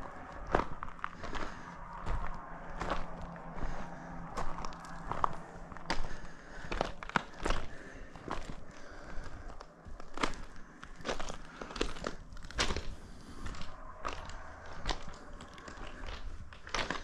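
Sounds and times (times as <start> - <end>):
footsteps crunching on gravel: 0.0 - 17.0.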